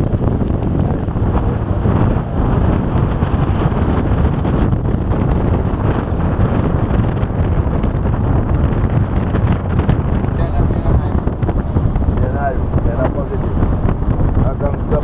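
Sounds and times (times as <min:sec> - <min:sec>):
van road and engine noise: 0:00.0 - 0:15.0
wind buffeting microphone: 0:00.0 - 0:15.0.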